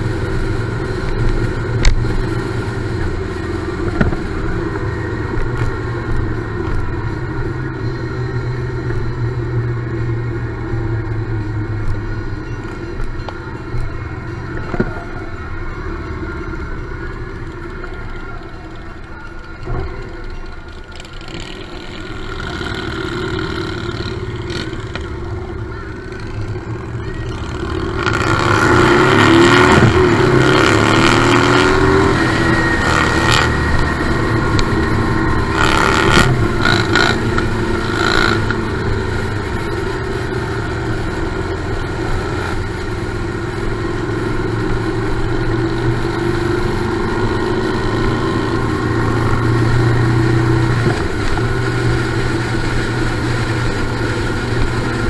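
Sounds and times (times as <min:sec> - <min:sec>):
motorcycle engines idling and revving: 0:00.0 - 0:55.0.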